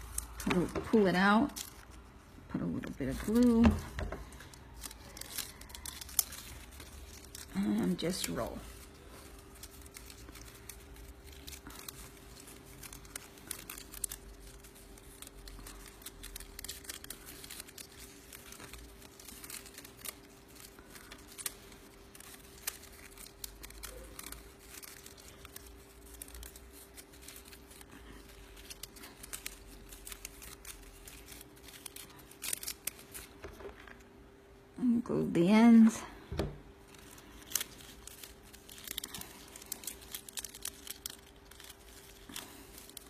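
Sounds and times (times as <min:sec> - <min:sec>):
cardstock rustling and crinkling: 0:00.0 - 0:34.2, 0:36.2 - 0:43.0
faint steady hum: 0:00.0 - 0:43.0.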